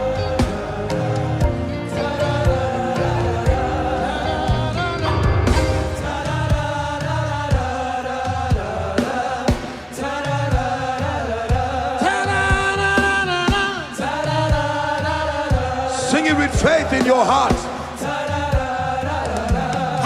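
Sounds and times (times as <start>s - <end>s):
group singing gospel song: 0.0s - 20.0s
live band playing: 0.0s - 20.0s.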